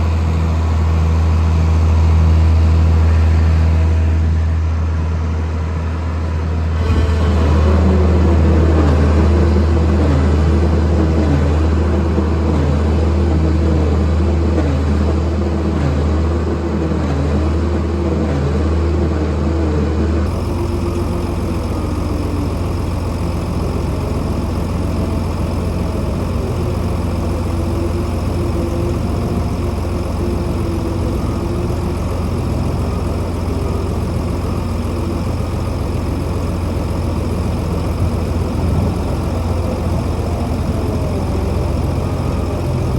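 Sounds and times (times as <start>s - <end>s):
heavy machine engine humming: 0.0s - 42.9s.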